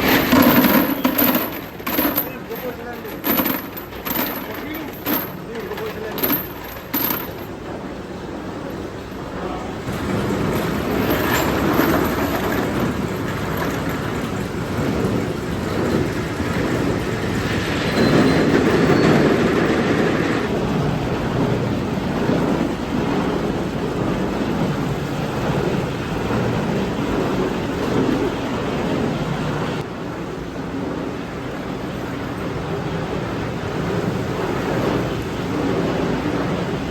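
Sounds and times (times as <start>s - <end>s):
workshop machinery running: 0.0s - 36.9s.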